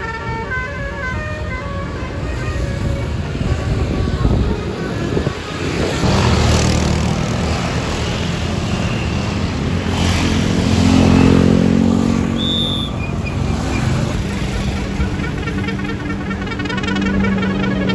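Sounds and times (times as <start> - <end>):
bus diesel engine running: 0.0 - 17.9.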